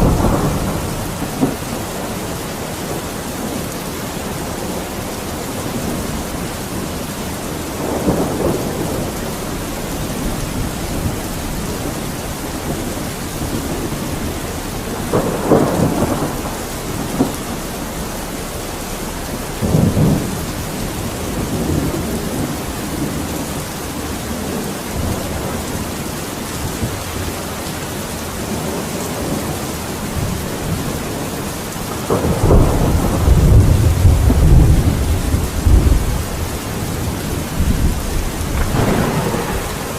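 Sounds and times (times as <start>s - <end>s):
heavy rain: 0.0s - 39.9s
rolling thunder: 0.0s - 39.9s.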